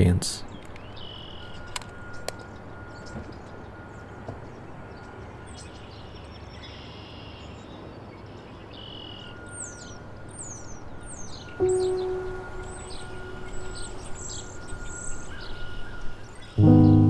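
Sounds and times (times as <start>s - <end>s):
bird calls: 0.0s - 17.0s
distant traffic rumble: 0.0s - 17.0s.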